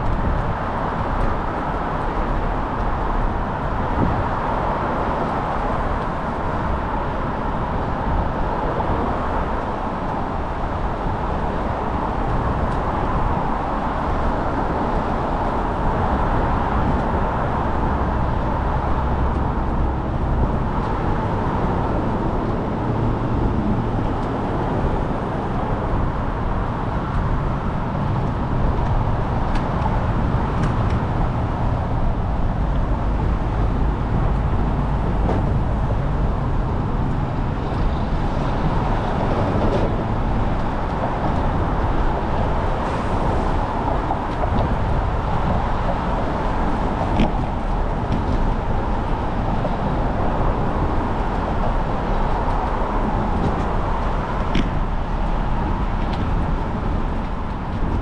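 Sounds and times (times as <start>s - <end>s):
traffic and road noise: 0.0s - 58.0s.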